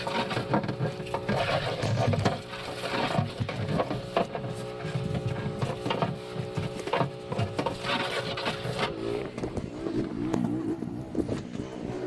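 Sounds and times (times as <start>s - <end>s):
pressure washer motor running: 0.0s - 10.0s.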